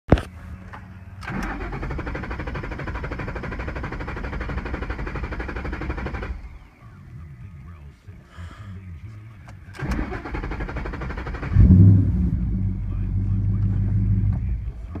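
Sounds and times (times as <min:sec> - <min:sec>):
engine starter cranking: 0:00.2 - 0:06.9, 0:09.4 - 0:15.0.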